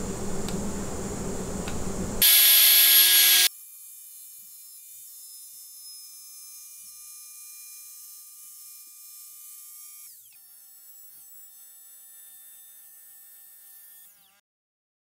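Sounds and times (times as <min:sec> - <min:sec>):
router whining while routing wood: 0:02.2 - 0:14.4.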